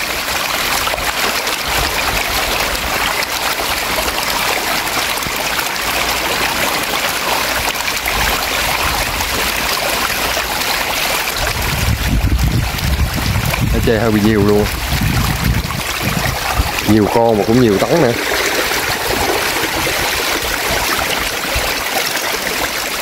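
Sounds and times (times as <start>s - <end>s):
fish thrashing and splashing: 0.0s - 23.0s.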